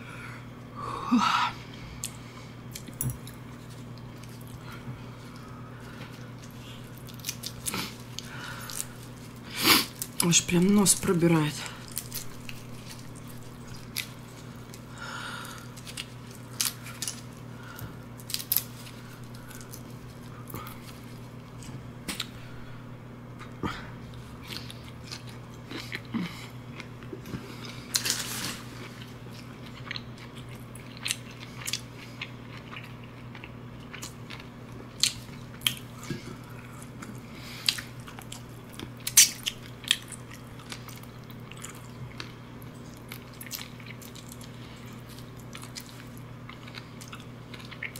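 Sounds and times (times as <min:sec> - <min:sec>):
steady low hum: 0:00.0 - 0:47.9
person chewing and biting: 0:02.0 - 0:10.3, 0:11.8 - 0:22.4, 0:23.4 - 0:47.9.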